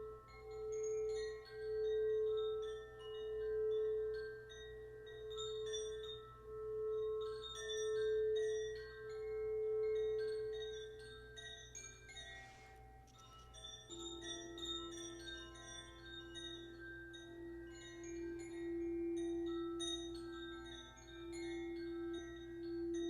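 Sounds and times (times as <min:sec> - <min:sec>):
crystal singing bowl tones: 0:00.0 - 0:23.0
high tinkling notes: 0:00.0 - 0:23.0.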